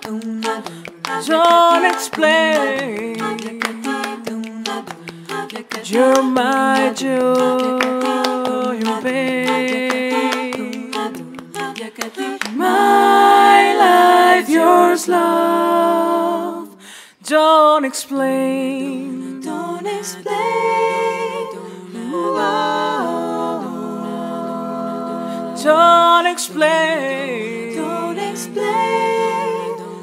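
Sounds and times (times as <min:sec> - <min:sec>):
women singing in close harmony: 0:00.0 - 0:30.0.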